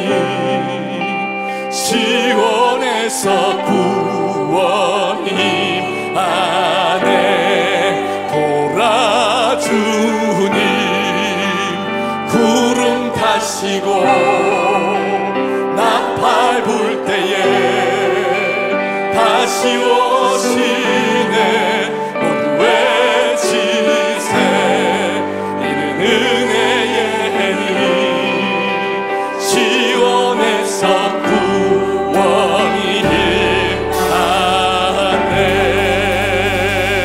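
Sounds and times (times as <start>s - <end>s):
band playing praise song: 0.0s - 37.0s
singers with vibrato: 0.0s - 37.0s.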